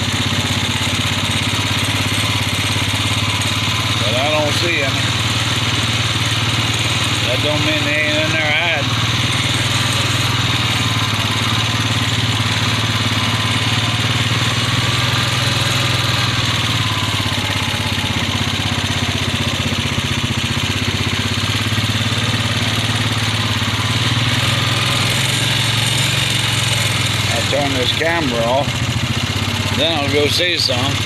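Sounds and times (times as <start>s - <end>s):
small engine droning: 0.0s - 31.0s.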